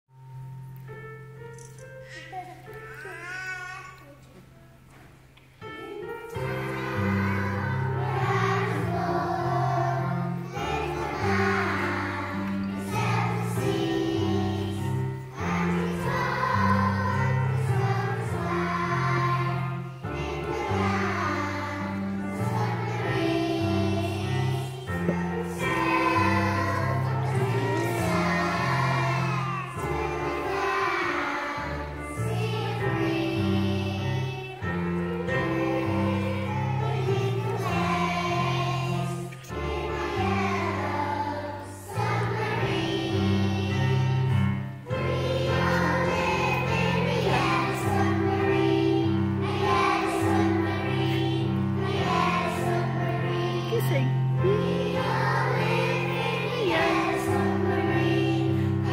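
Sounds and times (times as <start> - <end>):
held chords accompaniment: 5.4 - 58.9
children singing: 5.6 - 58.9.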